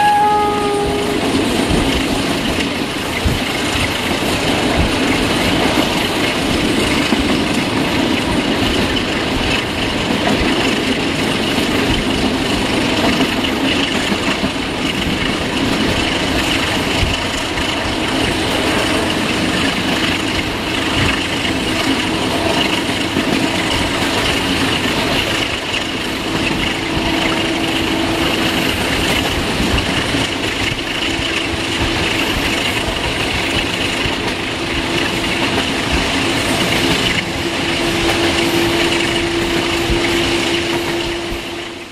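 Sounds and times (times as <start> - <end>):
train engine and rail rumble: 0.0 - 41.9.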